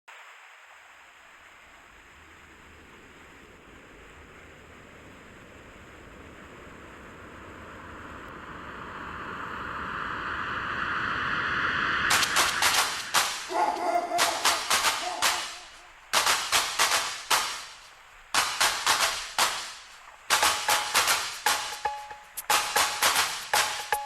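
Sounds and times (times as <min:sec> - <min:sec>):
rushing water: 0:00.1 - 0:24.0.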